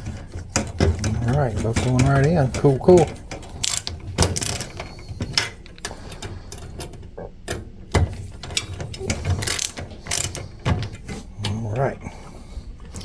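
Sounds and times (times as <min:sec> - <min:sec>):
clicks and knocks of hand tools: 0:00.0 - 0:11.6.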